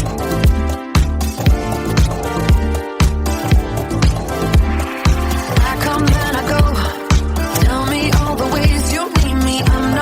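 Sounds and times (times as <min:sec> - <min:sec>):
instrumental dance-pop music: 0:00.0 - 0:10.0.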